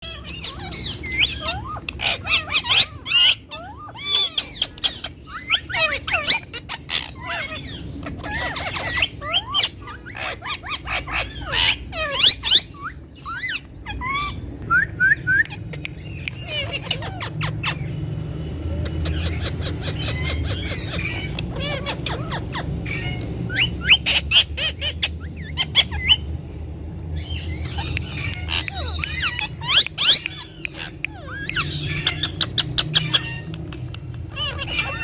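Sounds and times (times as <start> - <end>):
parrots chattering and squawking: 0.0 - 35.0.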